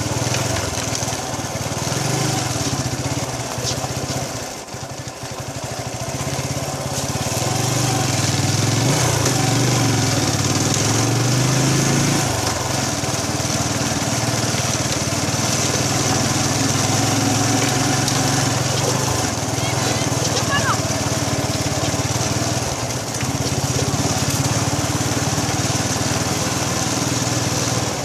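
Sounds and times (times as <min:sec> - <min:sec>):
vehicle engine on dirt road: 0:00.0 - 0:28.0.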